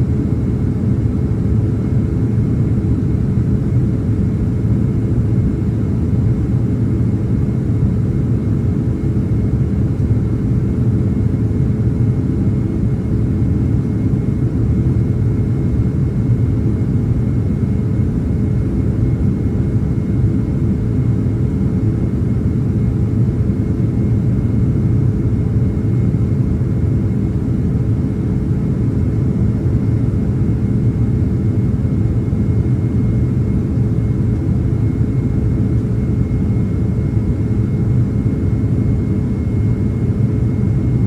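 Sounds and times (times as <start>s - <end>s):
jet airliner cabin roar: 0.0s - 41.0s.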